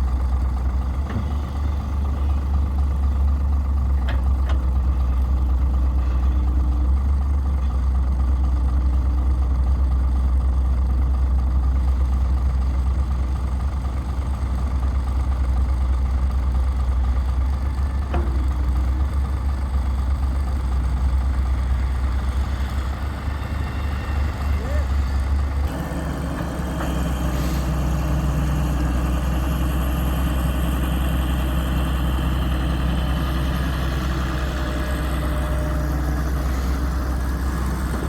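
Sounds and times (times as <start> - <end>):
heavy machinery engine rumbling: 0.0 - 38.0.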